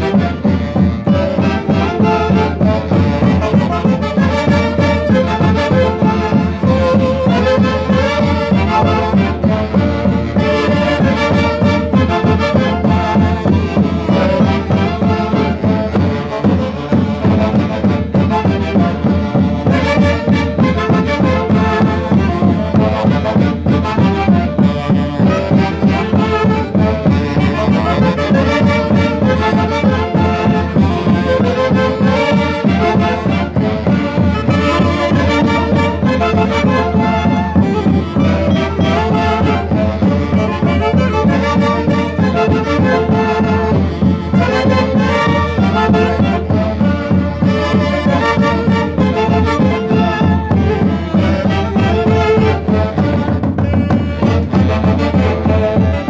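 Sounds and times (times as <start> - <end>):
saxophones and clarinets dance music: 0.0 - 56.0.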